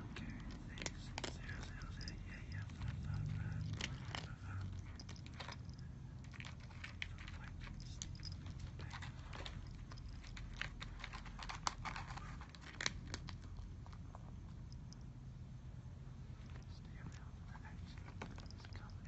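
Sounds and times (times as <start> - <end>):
cat crunching food: 0.0 - 15.2, 16.4 - 19.0.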